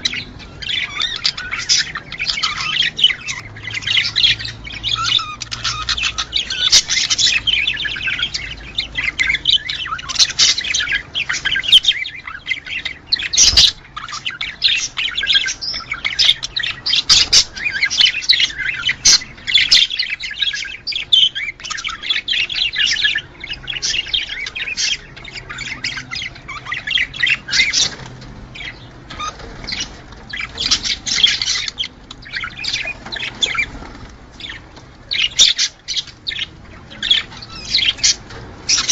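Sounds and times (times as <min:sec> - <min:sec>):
budgerigars chattering and warbling: 0:00.0 - 0:38.9.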